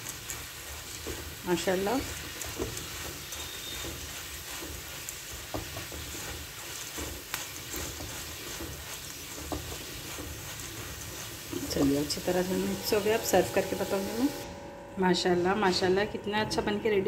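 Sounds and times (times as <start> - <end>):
spatula scraping dal in pan: 0.0 - 14.4
hot oil sizzling: 0.0 - 14.6.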